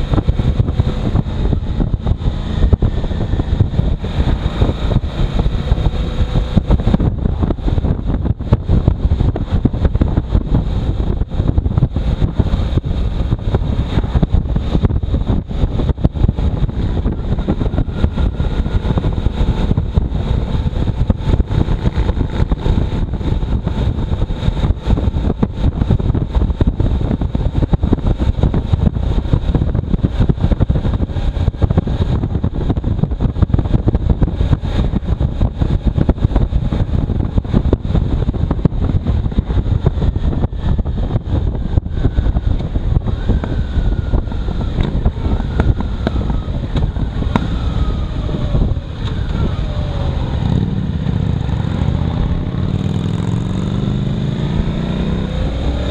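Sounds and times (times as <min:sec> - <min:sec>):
motorcycle engine: 0:00.0 - 0:55.9
wind buffeting microphone: 0:00.0 - 0:55.9.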